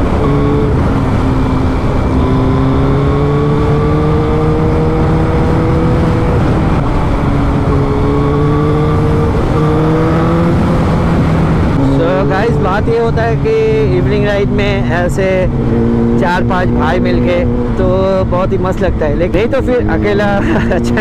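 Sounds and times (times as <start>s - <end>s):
motorcycle engine at speed: 0.0s - 21.0s
wind rush on microphone: 0.0s - 21.0s.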